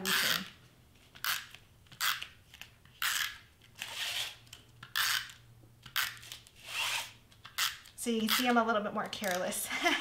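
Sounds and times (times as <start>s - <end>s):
adhesive tape tearing: 0.0s - 8.6s.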